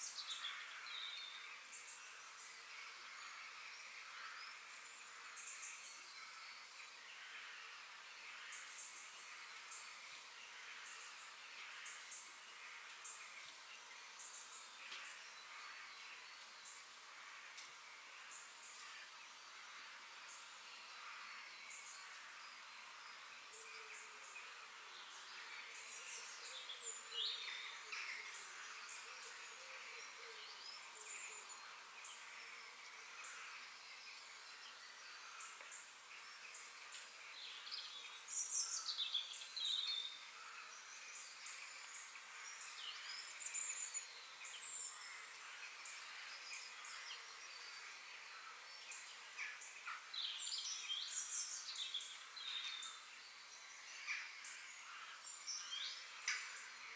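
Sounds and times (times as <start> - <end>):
faint hiss: 0.0 - 56.9.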